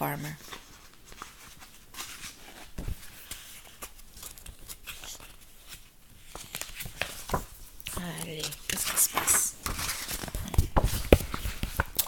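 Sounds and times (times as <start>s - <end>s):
paper pages rustling: 0.2s - 12.0s.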